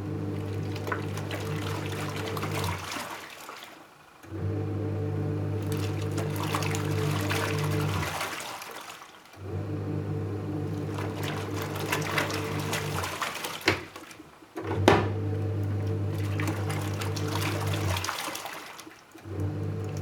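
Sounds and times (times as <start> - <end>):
washing machine motor humming: 0.0 - 3.2, 4.2 - 8.6, 9.4 - 20.0
water churning in tub: 0.0 - 20.0.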